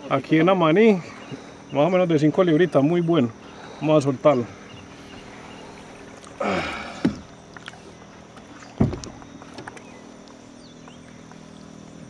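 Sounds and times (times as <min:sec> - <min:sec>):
faint water lapping: 0:00.0 - 0:12.0.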